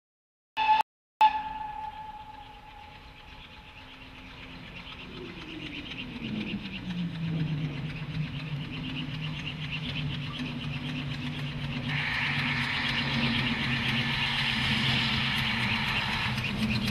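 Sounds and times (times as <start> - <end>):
steam locomotive chugging: 0.6 - 16.9.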